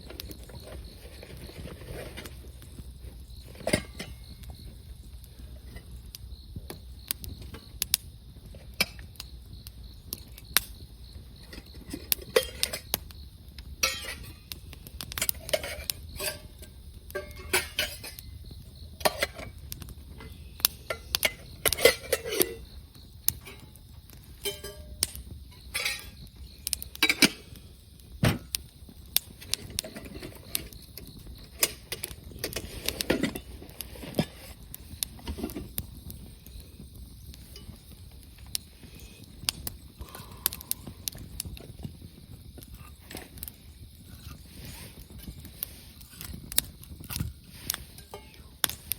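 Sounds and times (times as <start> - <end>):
insects trilling: 0.0 - 48.9
wood fire crackling and popping: 0.0 - 48.9.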